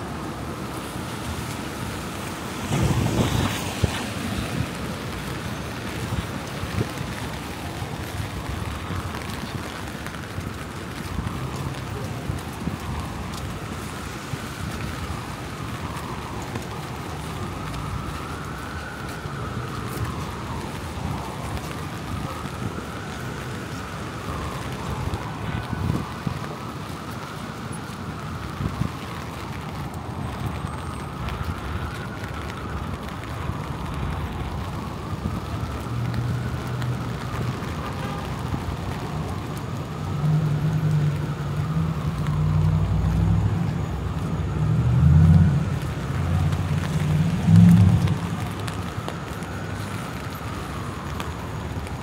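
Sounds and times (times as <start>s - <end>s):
traffic noise: 0.0s - 52.0s
vehicle engines rumbling: 0.0s - 52.0s.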